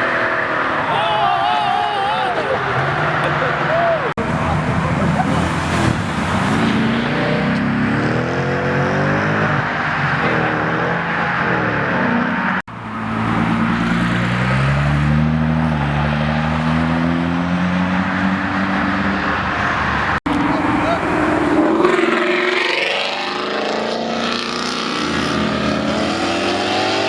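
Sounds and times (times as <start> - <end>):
car engine revving: 2.7 - 27.0.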